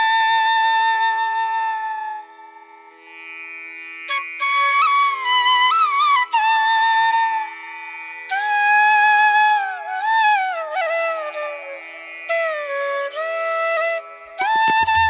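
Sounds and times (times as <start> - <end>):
bamboo flute melody: 0.0 - 2.8, 4.1 - 15.0.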